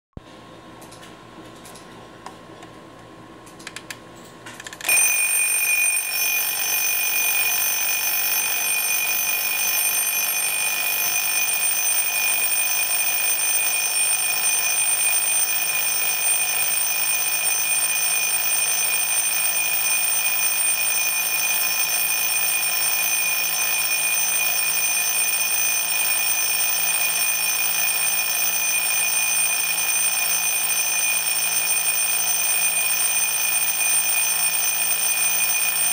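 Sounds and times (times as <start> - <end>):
alarm clock bell ringing: 4.9 - 35.9.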